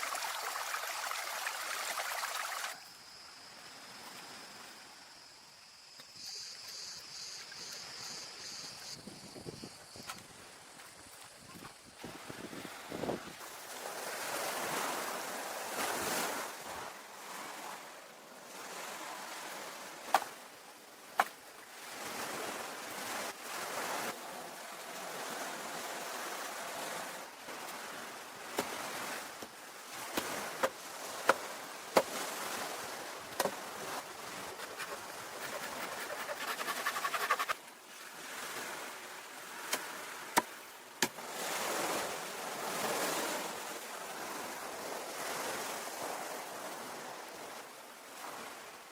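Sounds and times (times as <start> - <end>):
ocean waves washing on shore: 0.0 - 2.8, 11.9 - 48.9.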